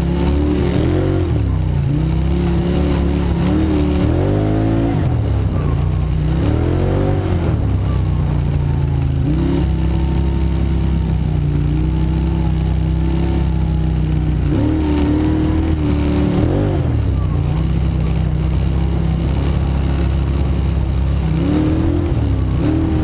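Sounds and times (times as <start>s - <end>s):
quad engine revving: 0.0s - 23.0s.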